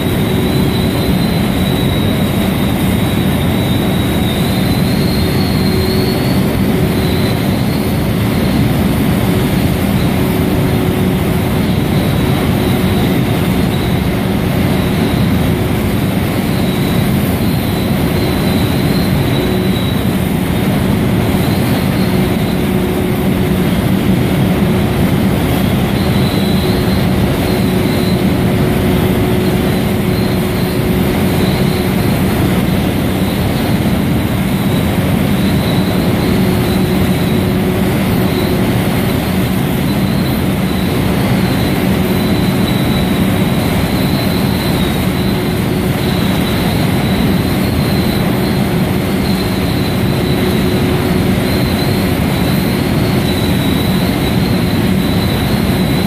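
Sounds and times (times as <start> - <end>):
constant low hum: 0.0 - 56.0
faint high whistle: 0.0 - 56.0
industrial roar: 0.0 - 56.0.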